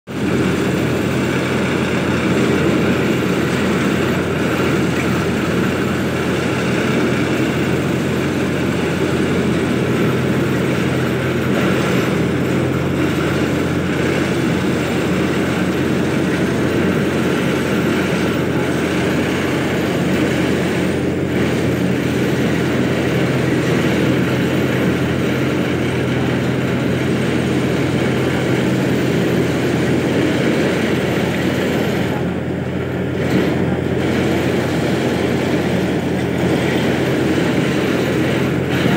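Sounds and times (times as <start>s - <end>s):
diesel excavator engine droning: 0.1s - 38.9s.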